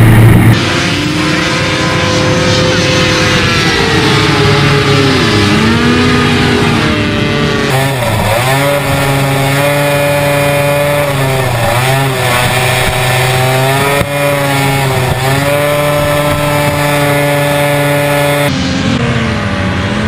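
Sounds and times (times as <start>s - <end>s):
hovercraft engine at high revs: 0.0s - 20.0s.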